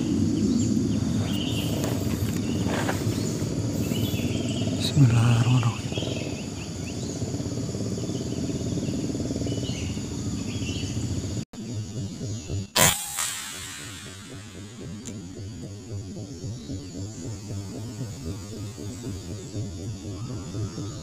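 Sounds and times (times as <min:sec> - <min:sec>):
brief low drone: 0:00.0 - 0:21.0
insects chirping: 0:00.0 - 0:21.0
steady low rumble: 0:00.0 - 0:21.0.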